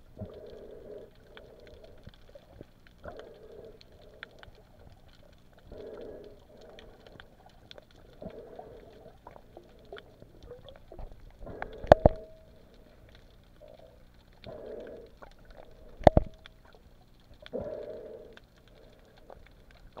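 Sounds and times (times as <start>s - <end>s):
underwater water swishes: 0.0s - 20.0s.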